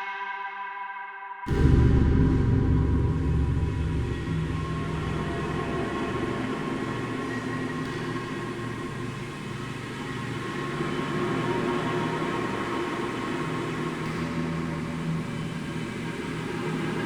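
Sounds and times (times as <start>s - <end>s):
metallic rumble drone: 1.5s - 17.0s.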